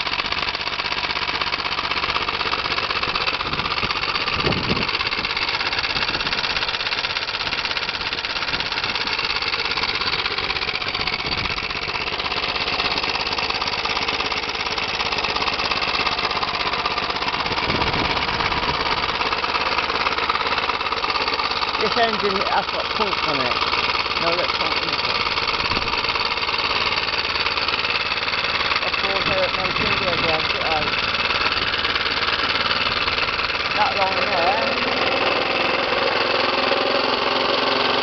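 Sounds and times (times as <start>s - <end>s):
small petrol engine running: 0.0s - 38.0s.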